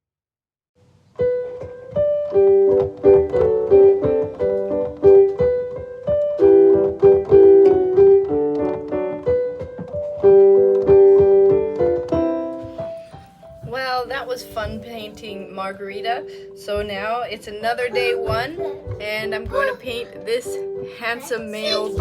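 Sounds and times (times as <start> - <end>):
piano music: 0.9 - 22.0.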